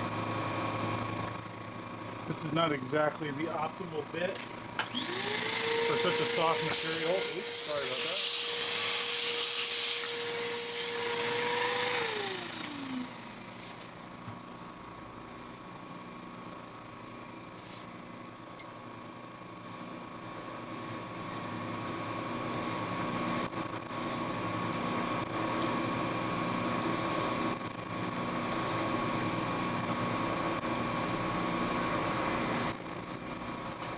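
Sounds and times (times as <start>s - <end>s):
end mill cutting whine: 0.0s - 19.1s, 20.4s - 33.9s
milling machine motor hum: 0.0s - 33.9s.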